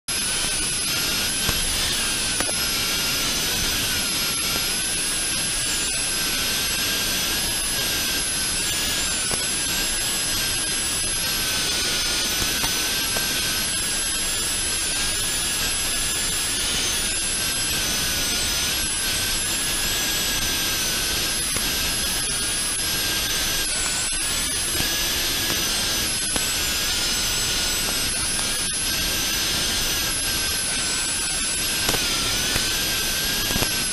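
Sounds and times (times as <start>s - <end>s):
quadcopter motors whining: 0.1s - 33.9s
radio static hiss: 0.1s - 33.9s.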